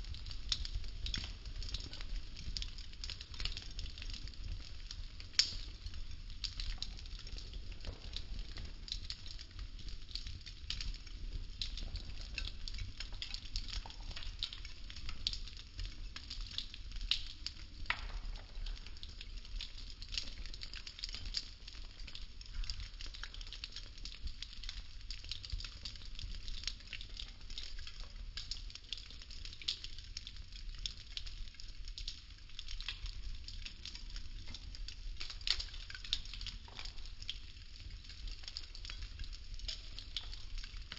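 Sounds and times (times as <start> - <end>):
burning wood sticks crackling: 0.0 - 40.9.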